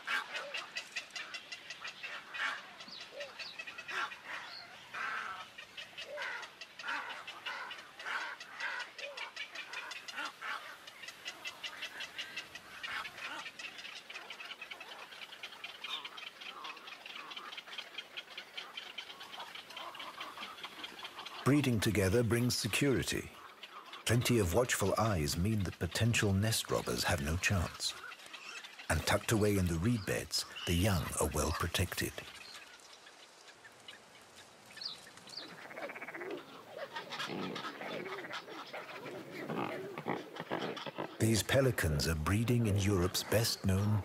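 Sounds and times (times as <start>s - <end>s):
waterbirds calling: 0.0s - 44.0s.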